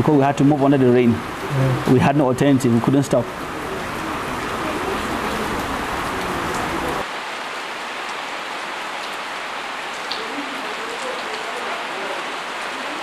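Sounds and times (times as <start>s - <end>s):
faint raindrops: 0.0s - 13.0s
steady rain falling: 0.0s - 13.0s.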